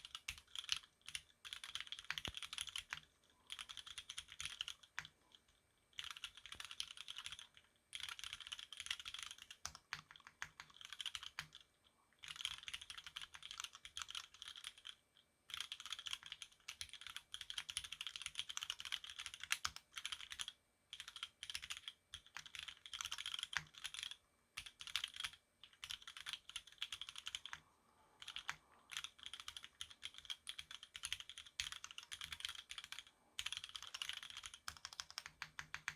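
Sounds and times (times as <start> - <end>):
mechanical keyboard typing: 0.0 - 11.6, 12.2 - 27.6, 28.2 - 35.9.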